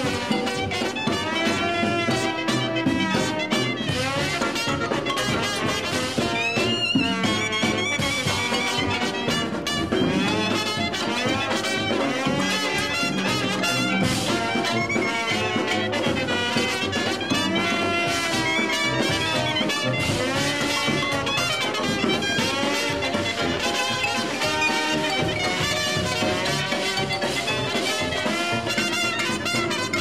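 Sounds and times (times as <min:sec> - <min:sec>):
brass jazz music: 0:00.0 - 0:30.0.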